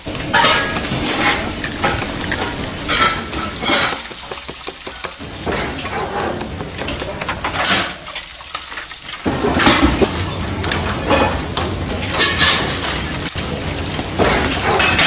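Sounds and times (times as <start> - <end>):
clattering: 0.0 - 8.2, 8.8 - 15.0.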